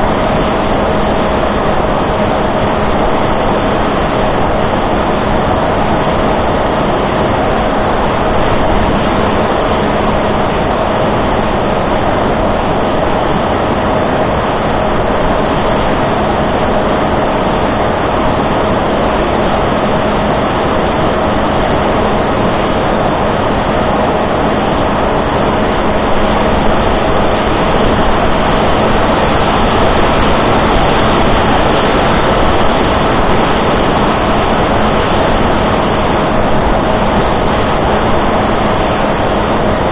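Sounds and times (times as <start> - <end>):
electric motor and propeller drone: 0.0 - 39.9
loud rushing noise: 0.0 - 39.9.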